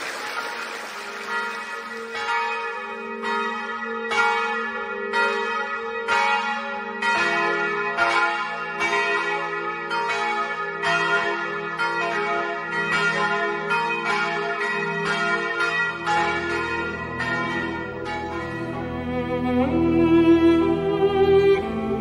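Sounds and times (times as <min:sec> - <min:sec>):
church bells pealing: 0:00.2 - 0:22.0.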